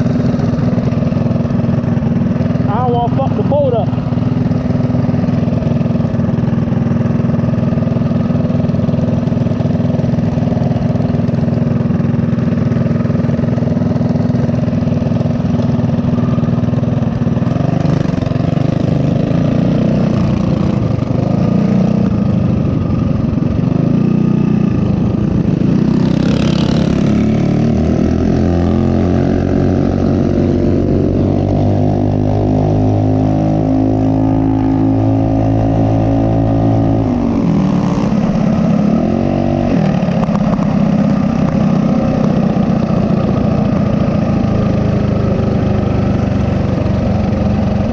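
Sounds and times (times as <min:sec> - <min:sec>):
mini bike engine running: 0:00.0 - 0:47.9.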